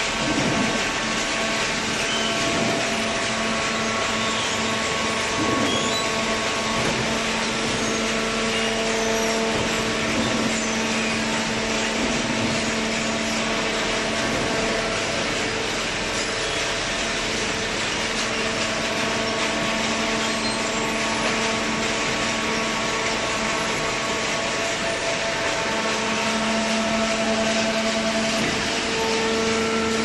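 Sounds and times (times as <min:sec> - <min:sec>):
baler motor and hydraulic pump hum: 0:00.0 - 0:30.0.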